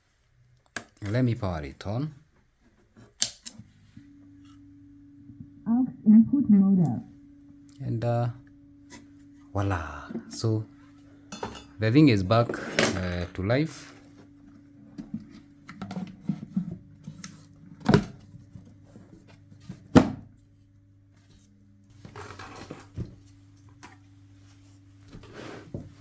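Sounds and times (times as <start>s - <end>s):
steady low electrical hum: 0.0s - 26.0s.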